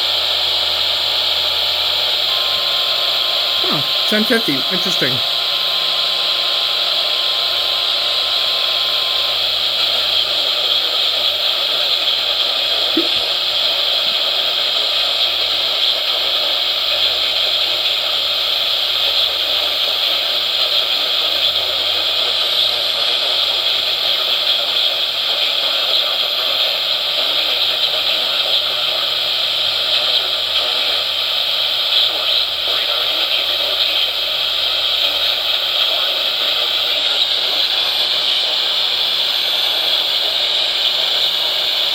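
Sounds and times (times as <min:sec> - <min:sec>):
radio static hiss: 0:02.2 - 0:41.9.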